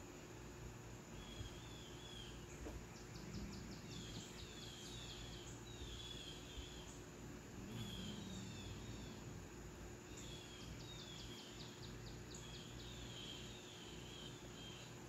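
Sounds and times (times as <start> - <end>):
faint birdsong: 0.0 - 15.0
low background noise: 0.0 - 15.0.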